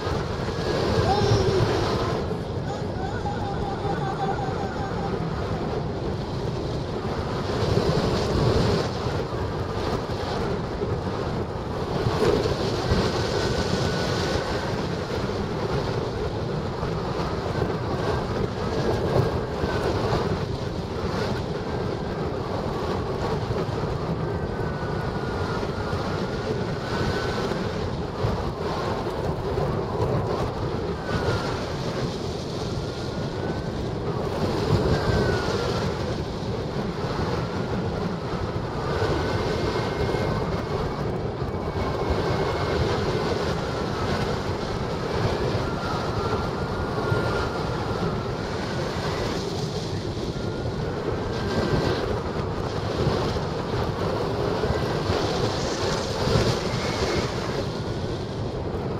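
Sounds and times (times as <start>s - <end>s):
airflow buffeting microphone: 0.0s - 58.9s.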